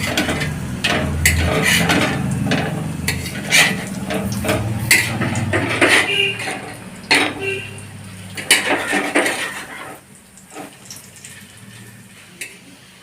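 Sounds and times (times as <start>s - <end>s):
metal spatula scraping iron griddle: 0.0s - 12.6s
oil sizzling: 0.0s - 13.0s.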